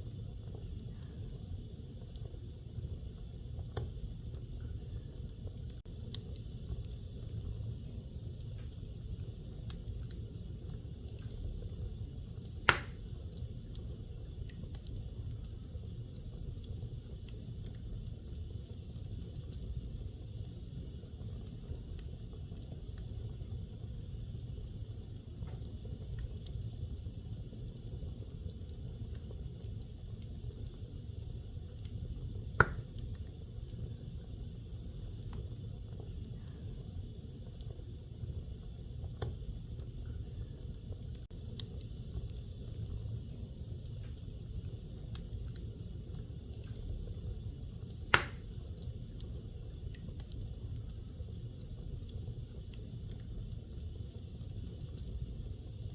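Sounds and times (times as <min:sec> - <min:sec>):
wood fire crackling: 0:00.0 - 0:55.9
sharp pops of fire: 0:01.8 - 0:04.7, 0:05.5 - 0:23.3, 0:24.1 - 0:33.9, 0:38.6 - 0:40.2, 0:41.0 - 0:55.6.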